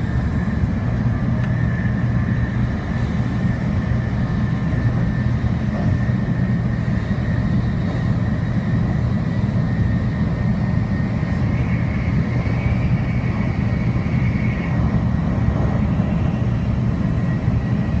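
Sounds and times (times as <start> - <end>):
train rumble inside passenger car: 0.0 - 18.0
faint high whine: 1.0 - 18.0.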